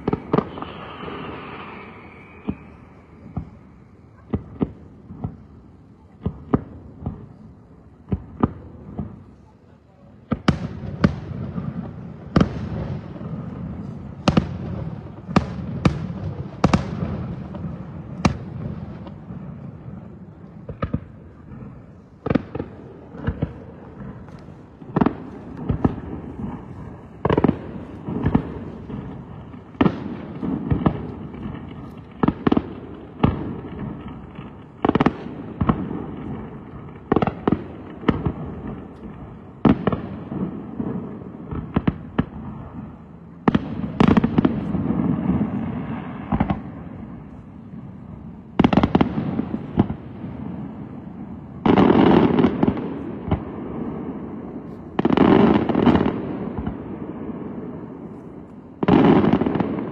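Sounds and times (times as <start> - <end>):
fireworks banging: 0.0 - 59.9.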